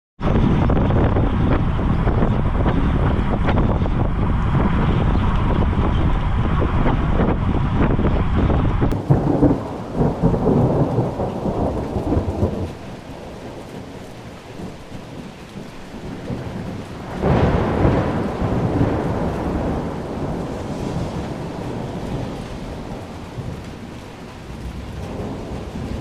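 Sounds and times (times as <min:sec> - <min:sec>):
rainstorm: 0:00.2 - 0:26.0
thunder rumbling: 0:00.2 - 0:26.0
wind rumbling: 0:00.2 - 0:26.0.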